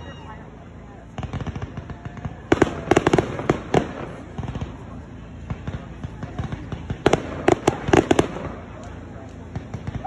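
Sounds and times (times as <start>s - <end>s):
fireworks bursting bangs: 1.0s - 10.0s.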